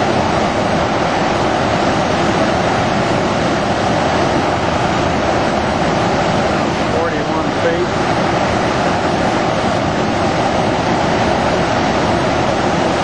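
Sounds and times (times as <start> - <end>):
whitewater rushing: 0.0 - 13.0.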